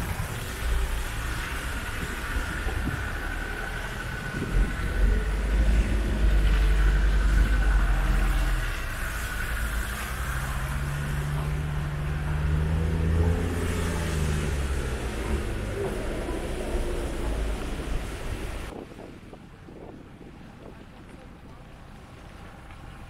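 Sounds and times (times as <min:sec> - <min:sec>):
off-road vehicle engine: 0:00.0 - 0:18.8.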